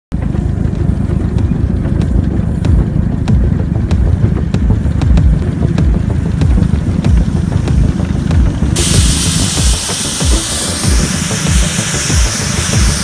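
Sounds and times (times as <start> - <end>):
rhythmic track clicks: 0.1 - 13.0
train rumble: 0.1 - 13.0.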